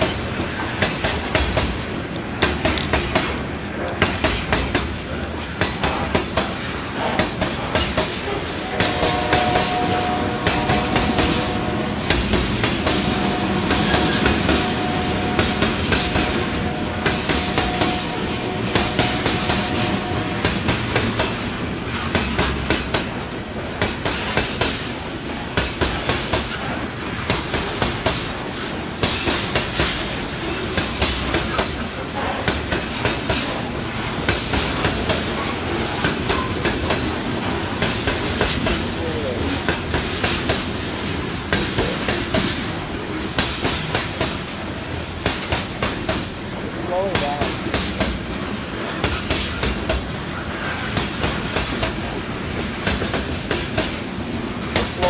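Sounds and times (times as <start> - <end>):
train rumble: 0.0 - 55.0
wheels clacking over rail joints: 0.0 - 55.0.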